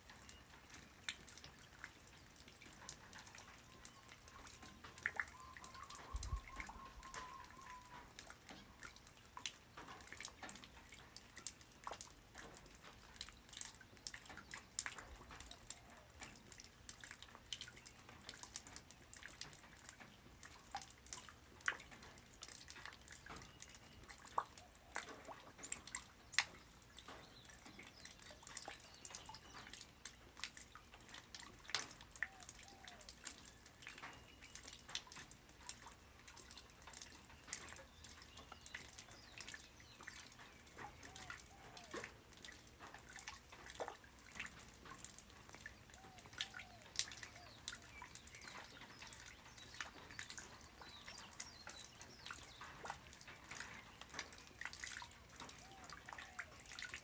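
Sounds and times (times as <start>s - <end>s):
light rain falling on ground: 0.0s - 57.0s
single raindrops splashing: 0.0s - 57.0s.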